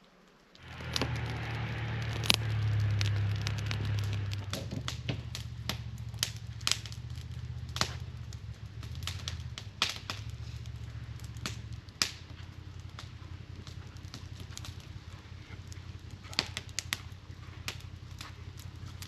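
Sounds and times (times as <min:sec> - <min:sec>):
wood campfire crackling: 0:00.0 - 0:19.0
low steady hum: 0:00.2 - 0:19.0.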